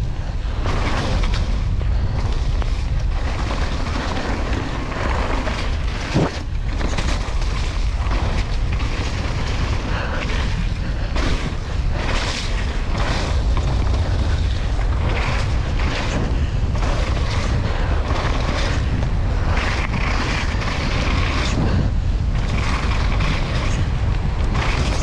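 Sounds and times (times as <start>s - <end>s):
bike rattling: 0.0s - 25.0s
tyres on rough wet dirt: 0.0s - 25.0s
wind rumbling over camera: 0.0s - 25.0s.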